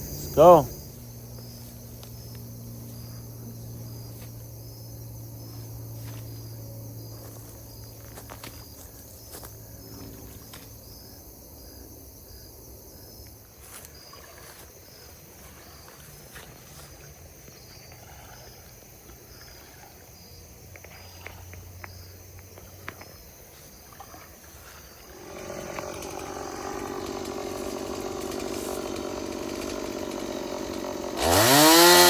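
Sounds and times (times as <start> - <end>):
crickets and insects chirping: 0.0 - 32.0.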